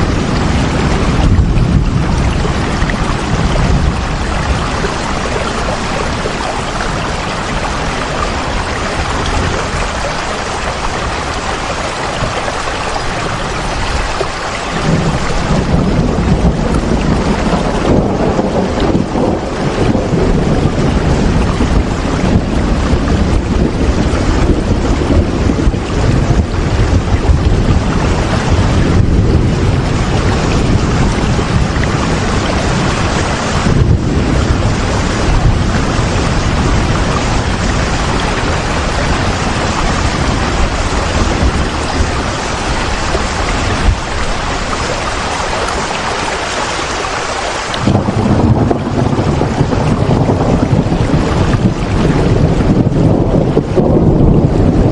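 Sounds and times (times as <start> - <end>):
low rumble: 0.0 - 45.1, 47.8 - 54.9
heavy rain hiss: 0.0 - 54.9.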